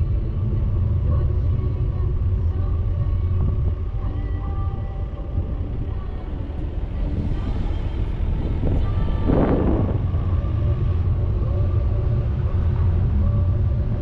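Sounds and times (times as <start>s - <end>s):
faint humming tones: 0.0s - 14.0s
vehicle engine rumble: 0.0s - 14.0s.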